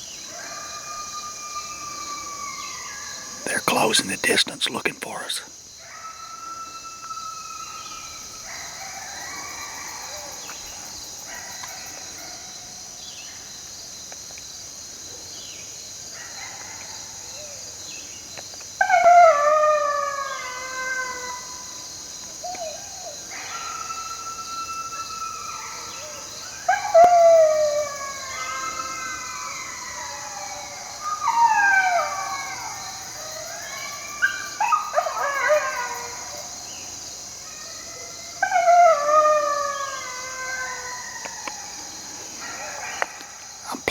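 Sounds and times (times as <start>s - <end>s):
coyotes howling and yipping: 0.0s - 3.4s, 5.8s - 13.5s, 18.8s - 43.6s.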